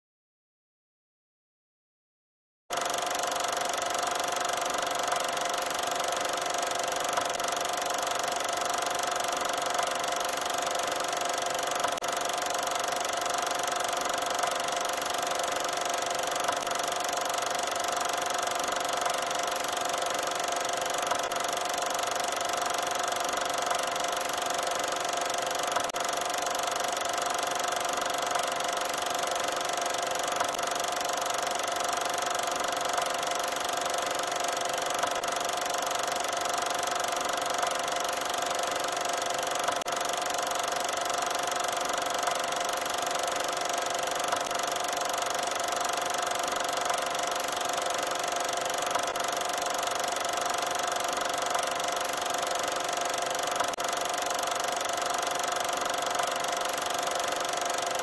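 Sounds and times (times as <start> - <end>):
film projector whirring: 2.7 - 58.0.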